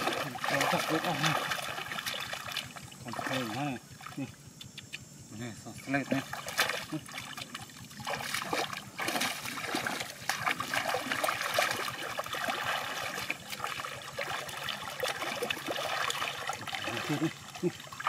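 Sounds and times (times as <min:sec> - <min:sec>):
splashing in shallow water: 0:00.0 - 0:04.6, 0:05.7 - 0:18.0
water trickling: 0:00.0 - 0:04.6, 0:05.7 - 0:18.0.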